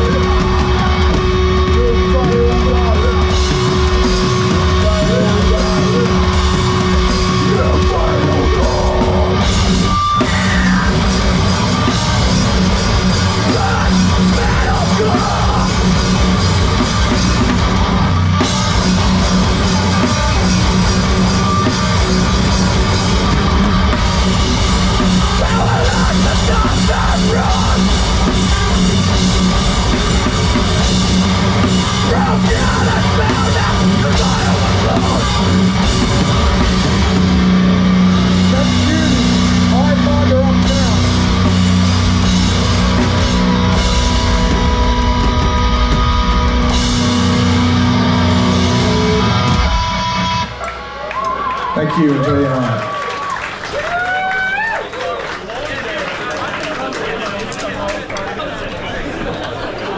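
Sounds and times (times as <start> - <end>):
heavy rock band playing live: 0.0 - 51.0.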